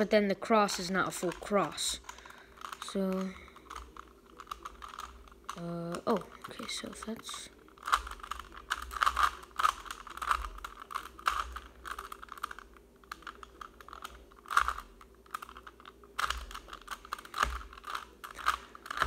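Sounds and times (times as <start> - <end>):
puzzle cube plastic clicks: 0.6 - 19.0.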